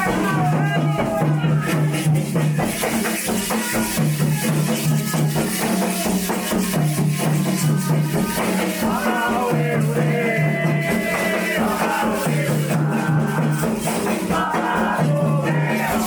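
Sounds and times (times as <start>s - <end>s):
rattles shaken rhythmically: 0.0s - 16.0s
voices singing: 0.0s - 16.0s.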